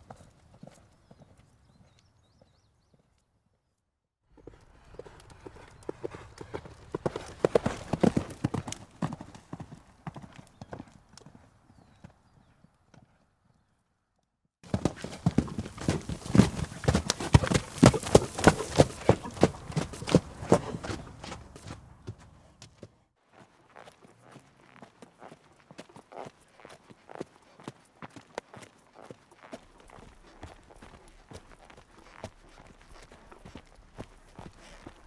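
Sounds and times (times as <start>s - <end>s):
horse hooves clip-clopping: 4.4s - 12.2s, 14.6s - 35.0s.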